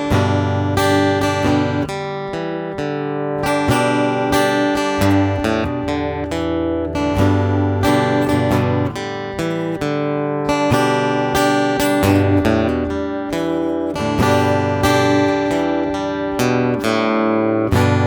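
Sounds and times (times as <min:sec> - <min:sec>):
acoustic guitar chords ringing: 0:00.0 - 0:18.0.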